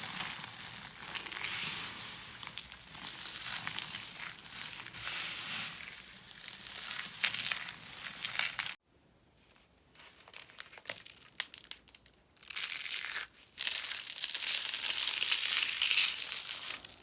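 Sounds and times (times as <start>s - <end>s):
dry soap crunching: 0.0s - 8.8s, 10.0s - 17.0s.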